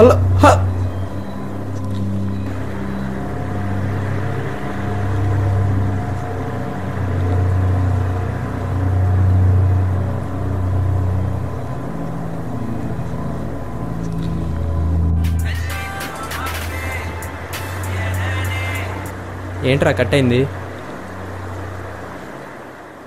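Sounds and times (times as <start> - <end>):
deep bass drone: 0.0 - 22.2.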